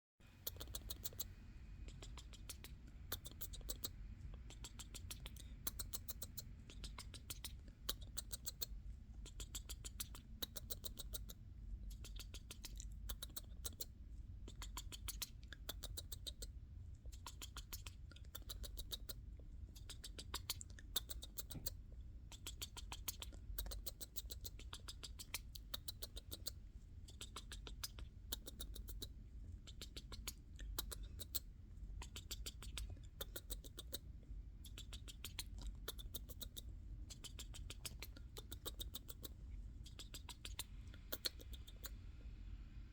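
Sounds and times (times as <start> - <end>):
kissing smacking clicks: 0.4 - 1.3, 1.9 - 13.9, 14.5 - 16.5, 17.1 - 42.0.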